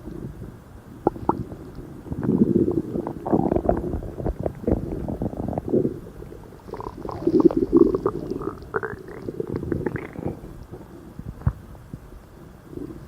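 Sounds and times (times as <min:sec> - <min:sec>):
stomach growling: 0:00.0 - 0:11.7, 0:12.6 - 0:13.0.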